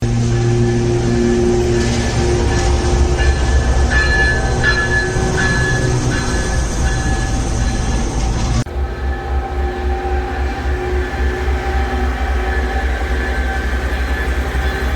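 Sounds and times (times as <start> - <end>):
diesel locomotive engine drone: 0.0 - 14.9
train wheels squealing: 0.4 - 14.9.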